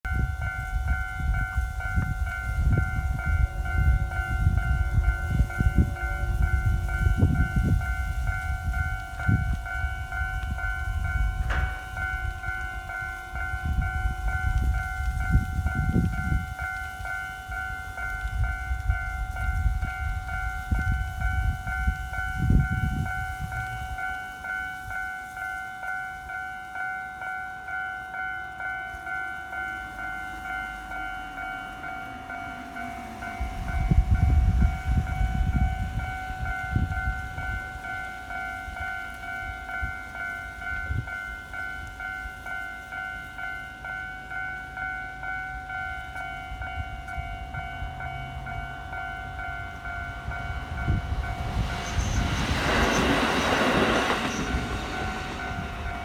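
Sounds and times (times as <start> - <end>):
diesel railcar rumble: 0.0 - 56.0
level crossing warning bell: 0.0 - 56.0.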